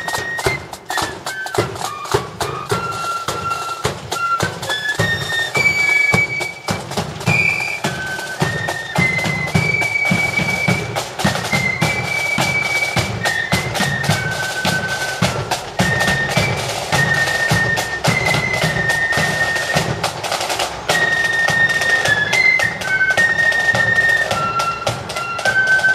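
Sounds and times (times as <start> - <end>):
flutes playing in unison: 0.0 - 25.9
snare drums: 0.0 - 25.9.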